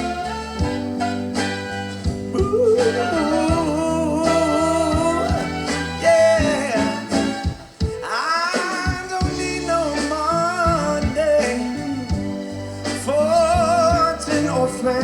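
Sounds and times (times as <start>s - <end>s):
soul band music: 0.0s - 15.0s.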